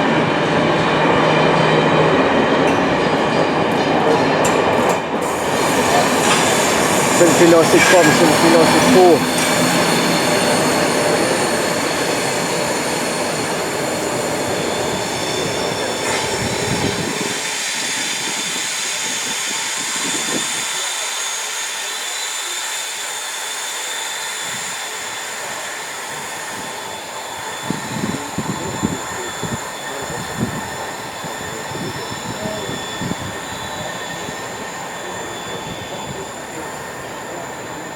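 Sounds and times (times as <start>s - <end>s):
train low rumble: 0.0s - 21.2s, 24.4s - 37.9s
wheels squealing on rails: 0.0s - 37.9s.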